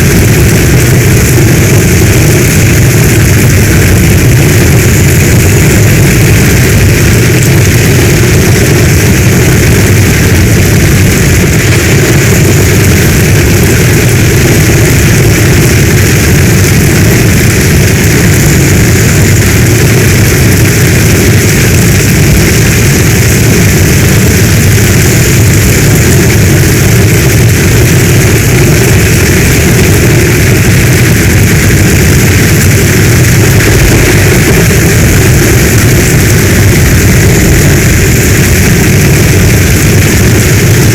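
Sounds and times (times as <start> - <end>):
deep steady rumble: 0.0 - 40.9
heavy rain rushing: 0.0 - 40.9.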